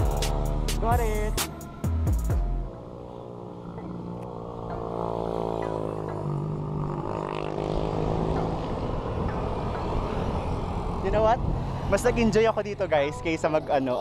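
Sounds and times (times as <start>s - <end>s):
car engines humming: 0.0s - 14.0s
motorcycle engine: 0.0s - 14.0s.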